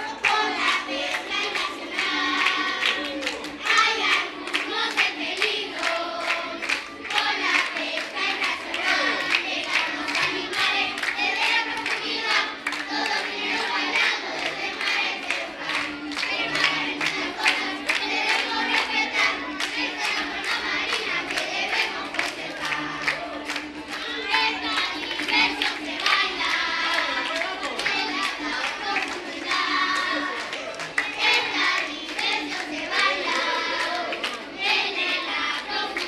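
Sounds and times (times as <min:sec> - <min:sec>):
children singing: 0:00.0 - 0:36.0
hands clapping in rhythm: 0:00.0 - 0:36.0.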